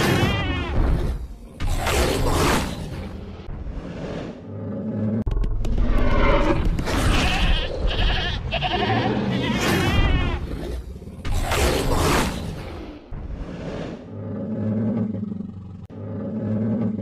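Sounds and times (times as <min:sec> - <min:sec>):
dinosaur roars and growls: 0:00.0 - 0:17.0.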